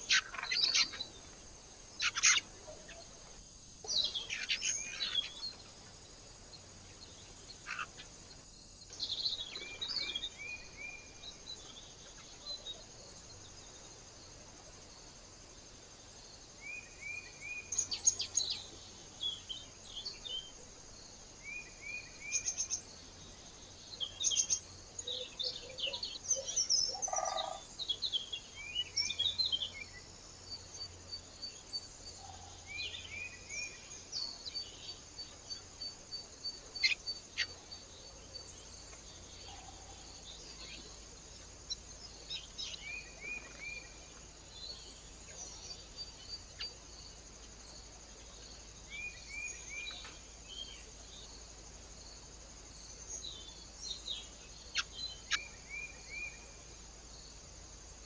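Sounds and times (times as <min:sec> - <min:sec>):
small birds chirping: 0:00.0 - 0:14.4, 0:16.2 - 0:58.0
faint outdoor hiss: 0:00.0 - 0:58.0.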